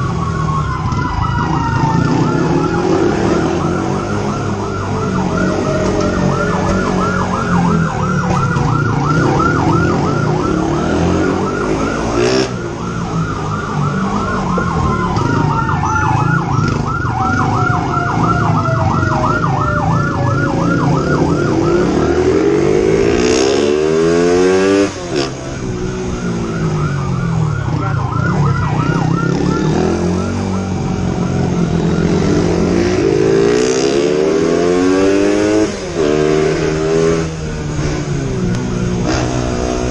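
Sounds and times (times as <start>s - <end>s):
motorbike engine revving: 0.0s - 39.9s
motorbike engines: 0.0s - 39.9s
police siren warbling: 0.0s - 39.9s
wind: 0.0s - 39.9s.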